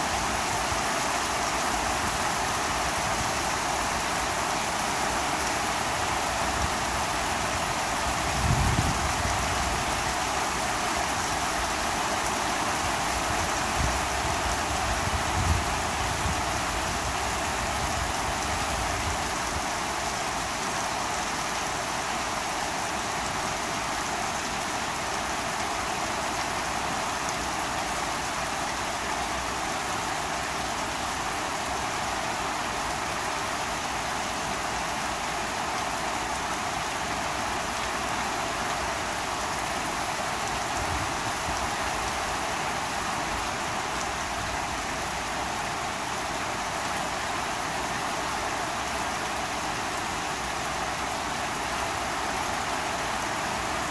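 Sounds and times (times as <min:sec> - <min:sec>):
heavy rain on lawn and pavement: 0:00.0 - 0:53.9.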